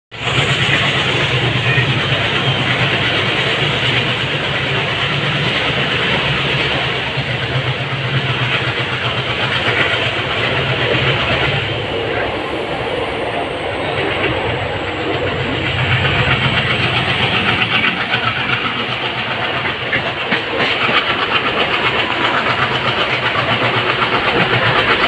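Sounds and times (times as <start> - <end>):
diesel locomotive chugging: 0.1 - 25.0
train rumble and rattle: 0.1 - 25.0.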